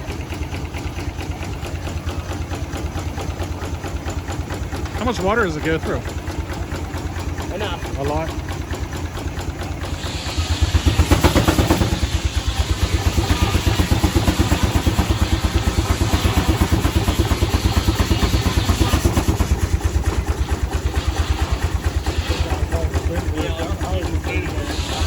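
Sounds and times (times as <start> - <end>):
steam engine exhaust beat: 0.0 - 25.0.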